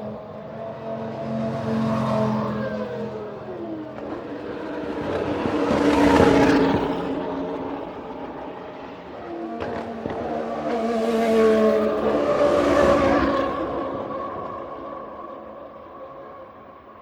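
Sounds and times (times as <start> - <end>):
racing cars speeding past: 0.0 - 17.0.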